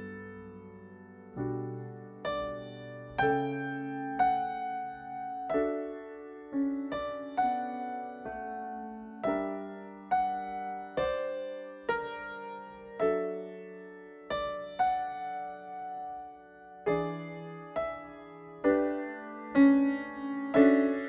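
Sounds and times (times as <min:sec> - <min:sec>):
slow solo piano: 0:00.0 - 0:21.0.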